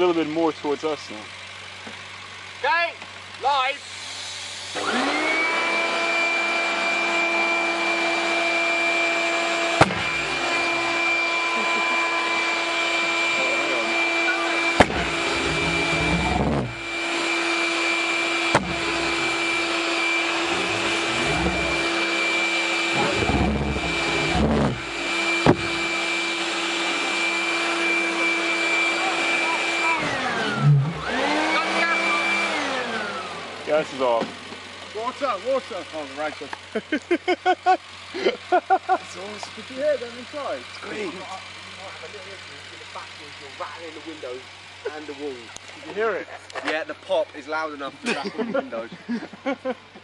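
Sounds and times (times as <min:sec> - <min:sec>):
electric air blower whining: 0:03.5 - 0:46.1.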